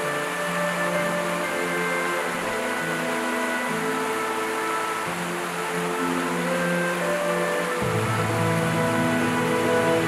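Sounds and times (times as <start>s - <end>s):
rushing stream water: 0.0s - 10.0s
slow held music notes: 0.0s - 10.0s.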